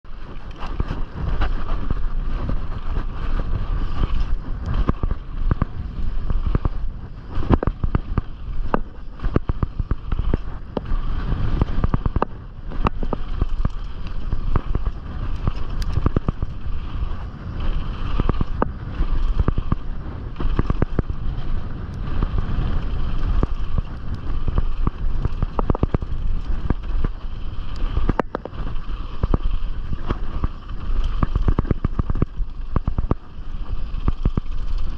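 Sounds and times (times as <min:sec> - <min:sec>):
bike frame and chain rattling: 0:00.1 - 0:34.9
tyres rumbling over dirt: 0:00.1 - 0:34.9.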